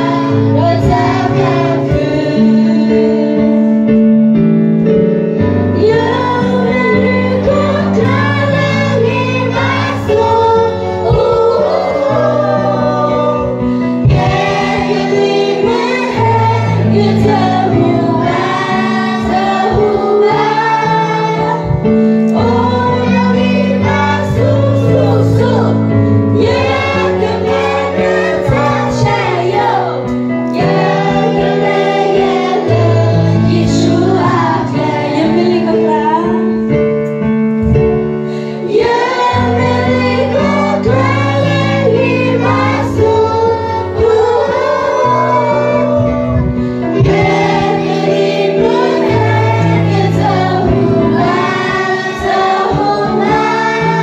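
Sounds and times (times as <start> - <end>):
young singers singing: 0.0 - 3.6, 5.7 - 36.4, 38.5 - 54.0
amplified accompaniment with bass: 0.0 - 54.0.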